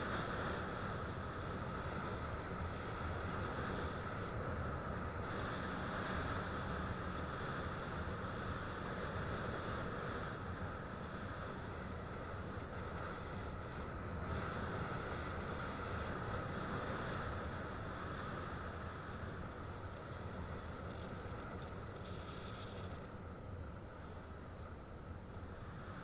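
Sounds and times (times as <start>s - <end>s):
faint high whine: 0.0s - 26.0s.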